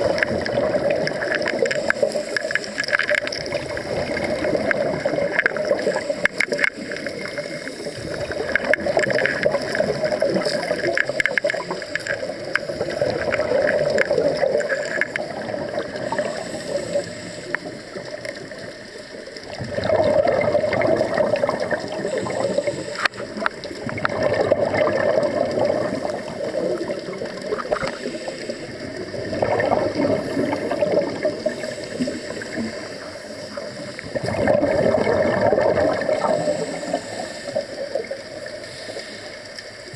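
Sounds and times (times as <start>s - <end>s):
regulator bubbles gurgling underwater: 0.0s - 39.9s.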